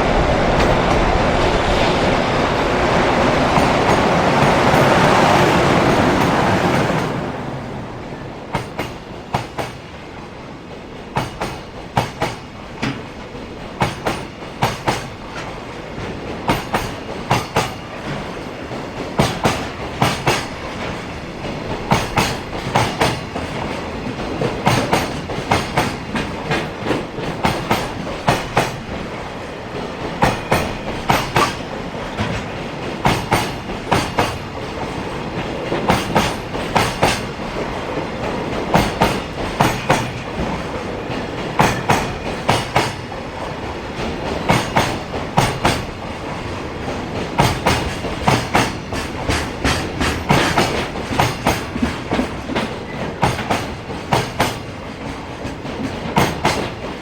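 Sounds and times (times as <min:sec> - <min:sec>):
train wheels clacking over rail joints: 0:02.6 - 0:07.4, 0:08.4 - 0:57.0.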